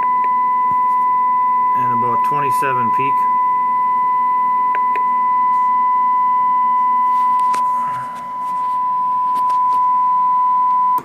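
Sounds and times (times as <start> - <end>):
steady test tone: 0.0 - 11.0.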